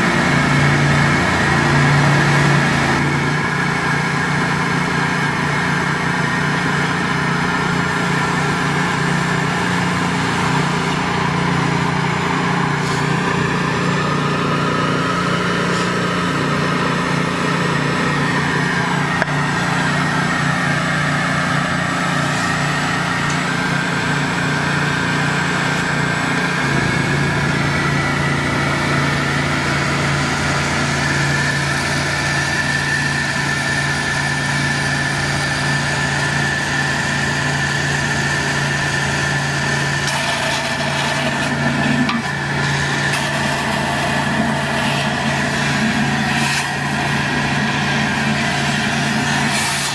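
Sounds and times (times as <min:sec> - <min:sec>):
small engine running: 0:00.0 - 0:49.9.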